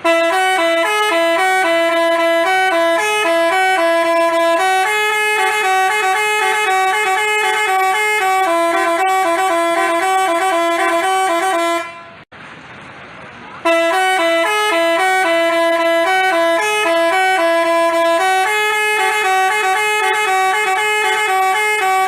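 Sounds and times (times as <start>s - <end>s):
musical bus horn melody: 0.0s - 12.3s, 13.6s - 22.0s.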